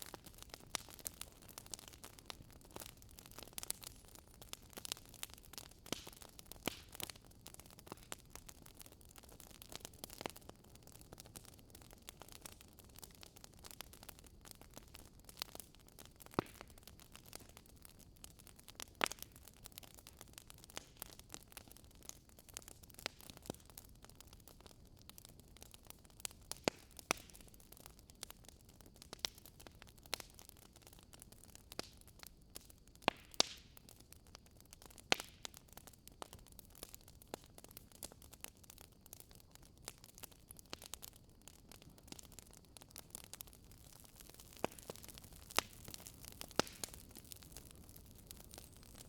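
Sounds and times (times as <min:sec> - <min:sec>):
fireplace fire hissing and popping: 0:00.0 - 0:49.0.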